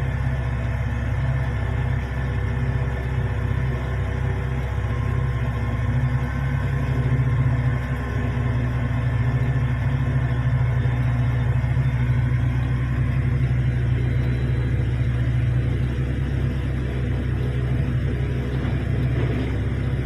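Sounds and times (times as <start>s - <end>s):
heavy diesel engines droning: 0.0s - 20.0s.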